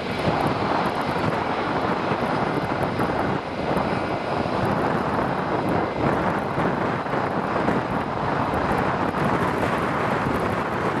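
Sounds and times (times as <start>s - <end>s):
jet airliner engines passing: 0.0s - 11.0s.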